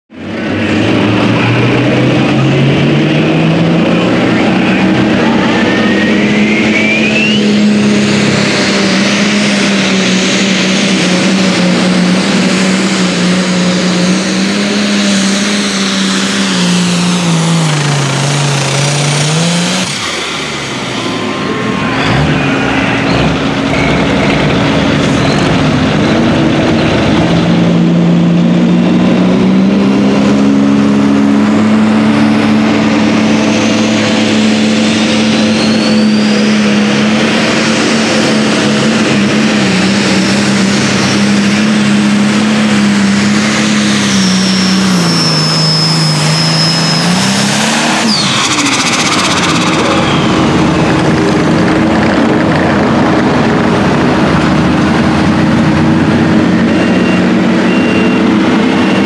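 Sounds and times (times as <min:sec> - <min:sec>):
diesel tractor engine at full throttle: 0:00.1 - 0:59.0
tractor engine running steadily: 0:00.1 - 0:59.0.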